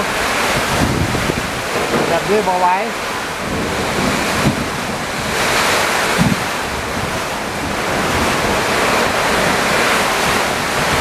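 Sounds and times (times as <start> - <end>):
rain: 0.0 - 11.0
strong wind gusting: 0.0 - 11.0
wind buffeting microphone: 0.0 - 11.0.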